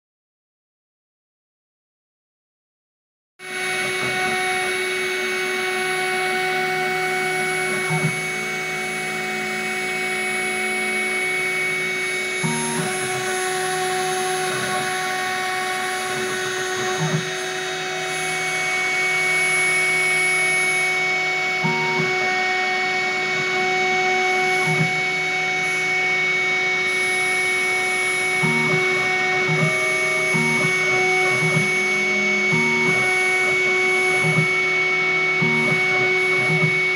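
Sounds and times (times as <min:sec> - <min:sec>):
router spindle whining: 0:03.4 - 0:36.9
stepper motors humming: 0:03.6 - 0:26.1, 0:26.7 - 0:36.9.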